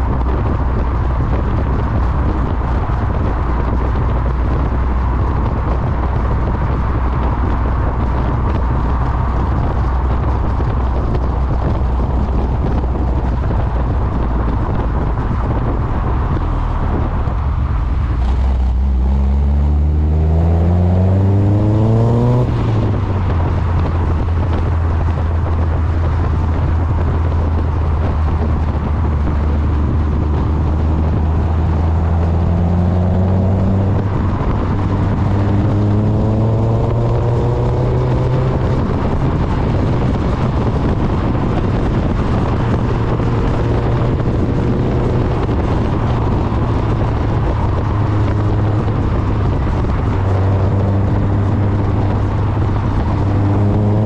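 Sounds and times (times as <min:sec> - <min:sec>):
sports car exhaust: 0:00.0 - 0:54.0
wind noise on microphone: 0:00.0 - 0:54.0.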